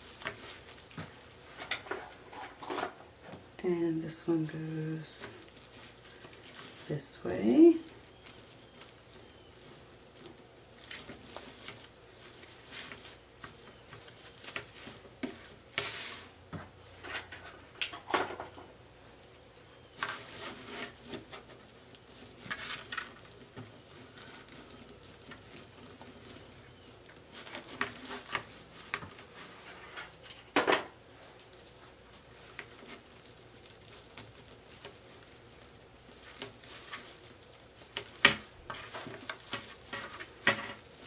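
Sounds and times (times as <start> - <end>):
plastic mesh rustling and crinkling: 0.0 - 3.0, 4.4 - 16.3, 19.9 - 41.0.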